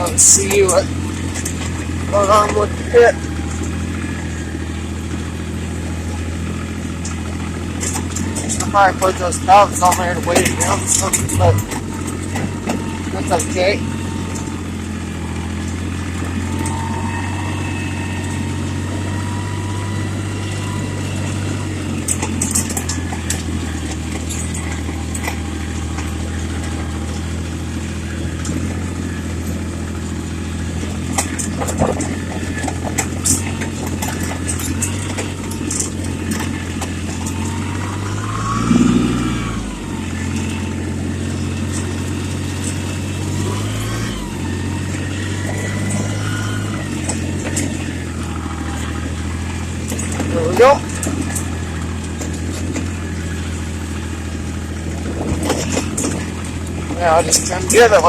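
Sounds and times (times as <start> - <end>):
clanks and rattles: 0.0 - 58.0
tractor diesel engine running: 0.0 - 58.0.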